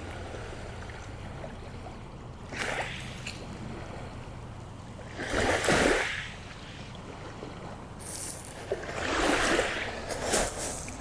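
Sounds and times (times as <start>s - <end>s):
lake waves lapping at shore: 0.0s - 11.0s.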